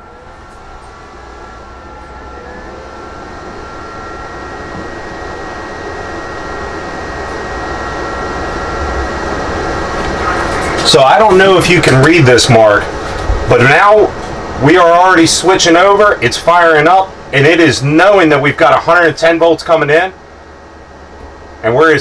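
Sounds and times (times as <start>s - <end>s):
mechanical drone with high whine: 0.0s - 22.0s.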